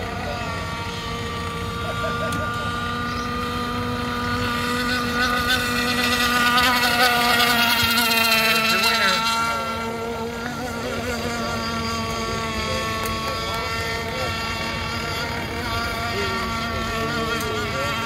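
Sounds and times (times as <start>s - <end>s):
model boat engines whining: 0.0s - 18.0s.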